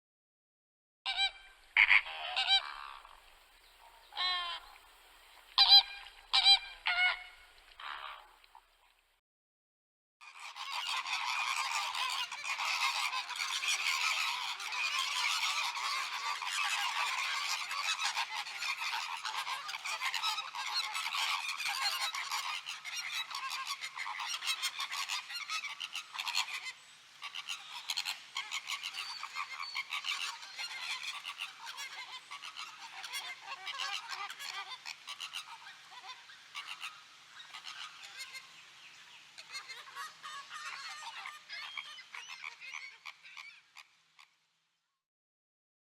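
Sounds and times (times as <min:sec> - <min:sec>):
flamingos honking and chattering: 0:01.1 - 0:04.9, 0:05.6 - 0:08.3, 0:10.2 - 0:43.9.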